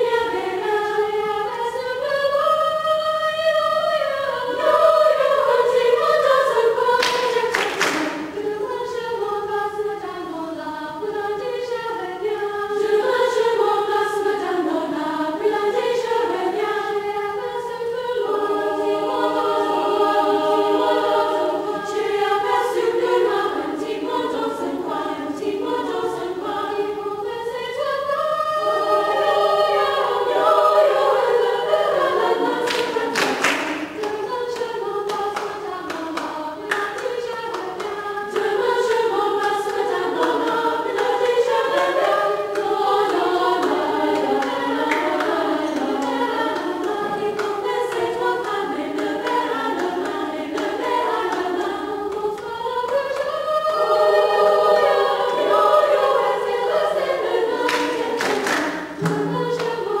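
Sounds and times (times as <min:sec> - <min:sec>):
choir singing: 0:00.0 - 1:00.0.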